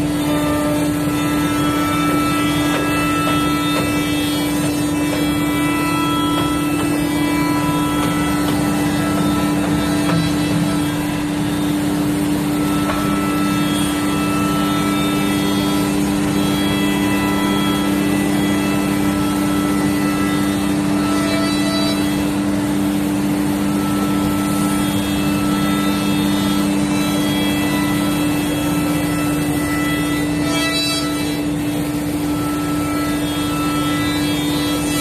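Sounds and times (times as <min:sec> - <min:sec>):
cnc router spindle hum: 0:00.0 - 0:35.0.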